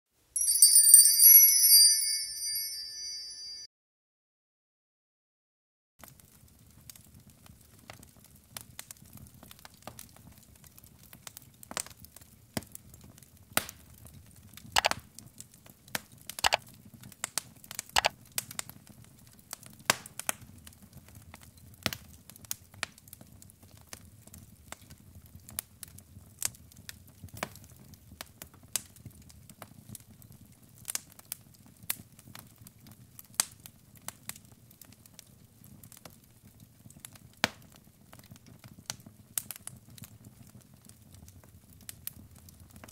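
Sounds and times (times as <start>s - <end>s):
wood fire crackling and popping: 6.0s - 42.9s.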